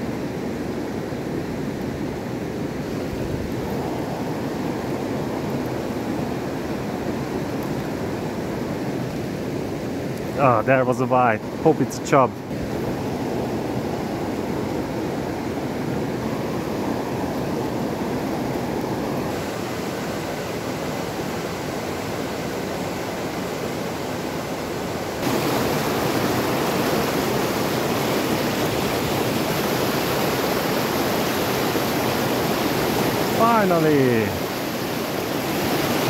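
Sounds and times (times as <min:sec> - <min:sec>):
river water rushing through rapids: 0:00.0 - 0:36.0.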